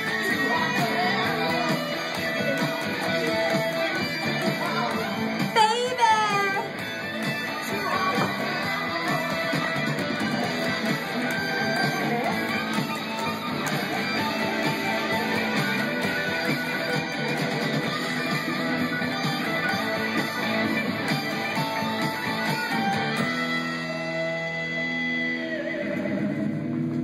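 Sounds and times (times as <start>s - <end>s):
electric guitar playing: 0.0s - 27.0s.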